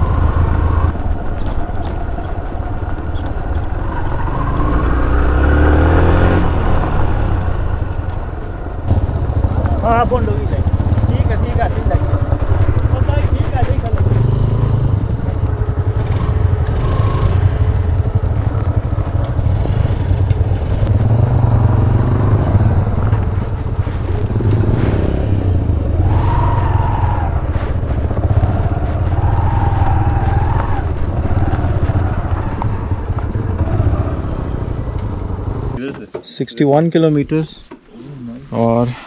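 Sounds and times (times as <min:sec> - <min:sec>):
motorcycle engine running: 0:00.0 - 0:35.8.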